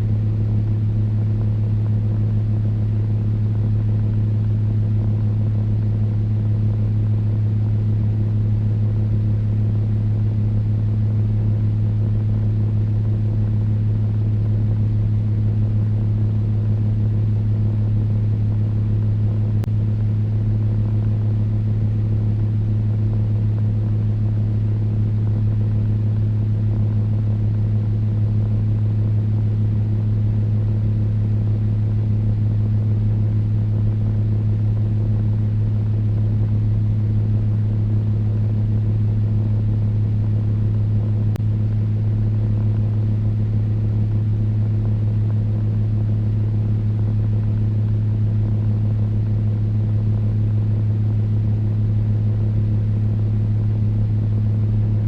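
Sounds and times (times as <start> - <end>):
electric fan humming: 0.0 - 55.0.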